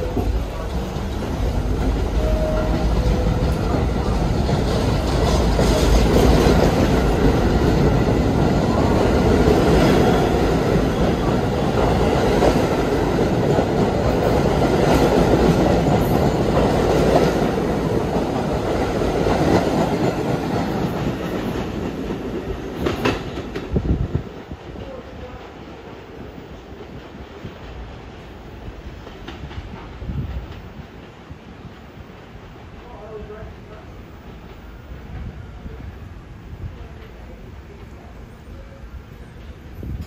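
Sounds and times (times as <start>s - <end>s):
subway train wheels clattering: 0.0s - 40.0s.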